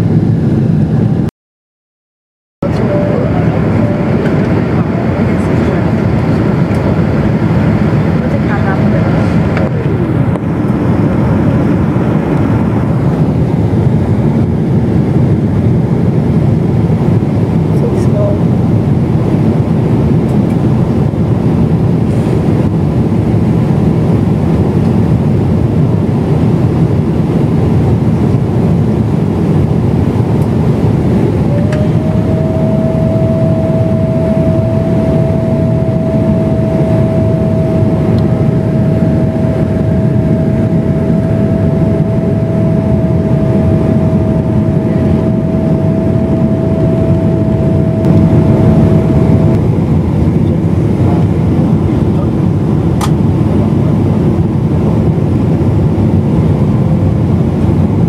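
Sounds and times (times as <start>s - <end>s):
airliner cabin engine rumble: 0.0s - 1.3s, 2.6s - 58.0s
steady whine: 0.0s - 1.3s, 2.6s - 58.0s.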